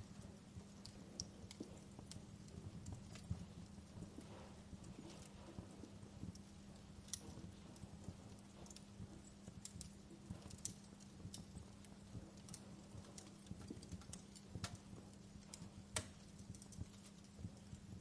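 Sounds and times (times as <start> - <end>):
steady low hum: 0.0 - 18.0
wood fire crackling: 0.0 - 18.0.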